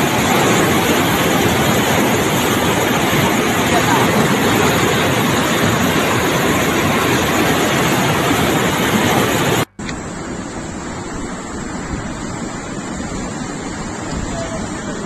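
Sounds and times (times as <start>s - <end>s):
floodwater rushing: 0.0s - 15.0s
wind: 0.0s - 15.0s.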